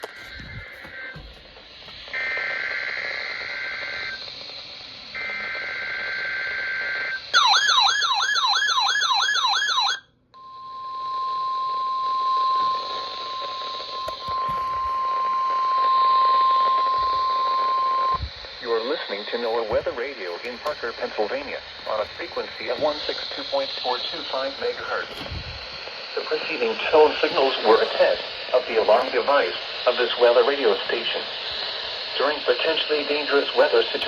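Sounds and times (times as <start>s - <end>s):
steady weather alarm tone: 0.0s - 4.3s, 5.1s - 34.0s.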